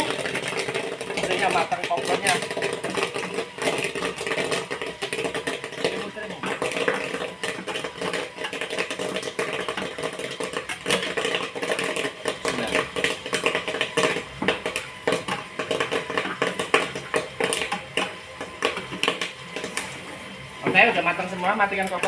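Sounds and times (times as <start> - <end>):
popcorn popping: 0.0 - 20.0, 20.6 - 22.0
popcorn machine hum: 0.0 - 22.0.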